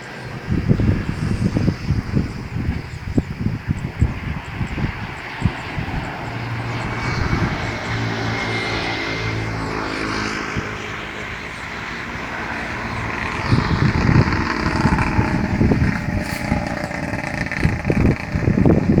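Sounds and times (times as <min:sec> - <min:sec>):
harvester engine running: 0:00.0 - 0:19.0
wind rumbling on microphone: 0:00.0 - 0:19.0.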